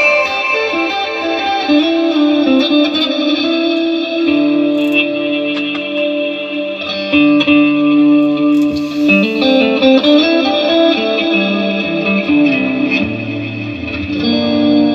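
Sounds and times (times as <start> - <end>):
electric guitar notes and chords: 0.0 - 14.9.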